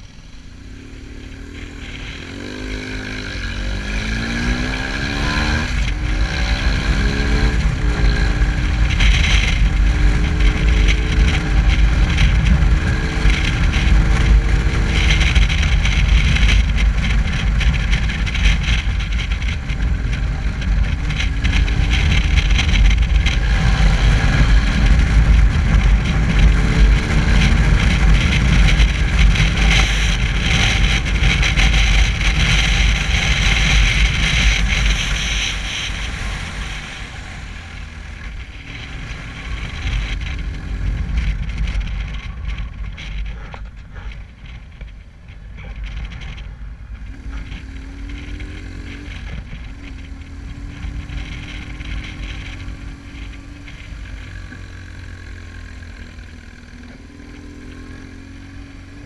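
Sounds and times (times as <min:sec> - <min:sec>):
motorcycle engine rumble: 0:00.0 - 0:59.0
wind rushing over microphone: 0:00.0 - 0:59.0.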